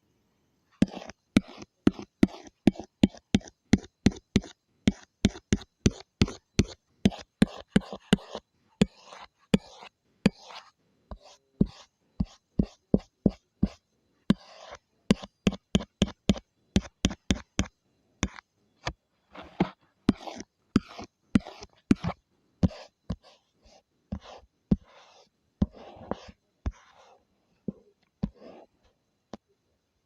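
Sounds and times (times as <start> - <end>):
scratchy drawing strokes: 0.8 - 18.4, 19.3 - 28.8
drawing tool tapping: 0.8 - 27.1.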